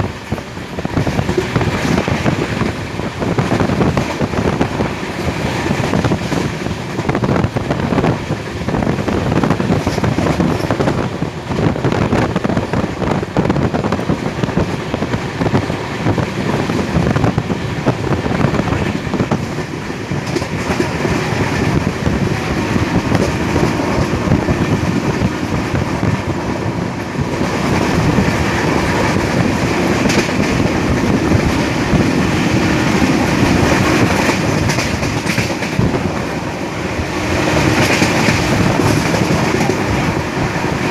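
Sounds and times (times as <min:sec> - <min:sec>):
train wheels clattering over rail joints: 0:00.0 - 0:40.2.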